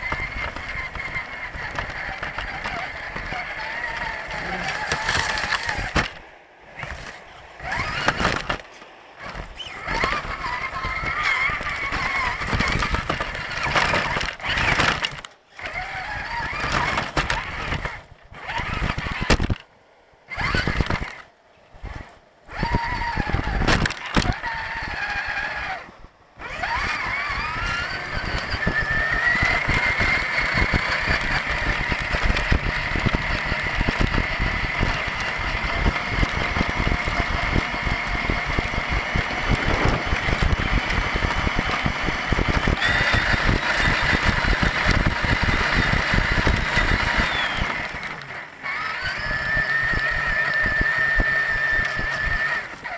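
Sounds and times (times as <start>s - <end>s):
electric motor whine: 0.0s - 52.9s
tyres rumbling on ground: 0.0s - 52.9s.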